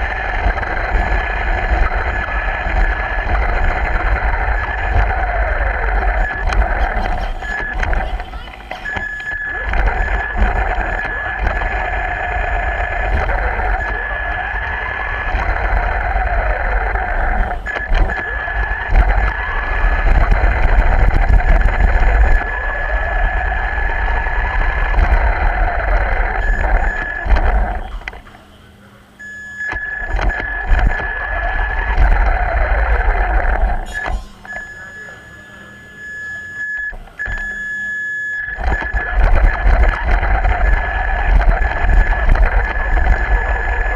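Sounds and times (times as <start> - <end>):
toy car motor whining: 0.0 - 28.3, 29.2 - 43.9.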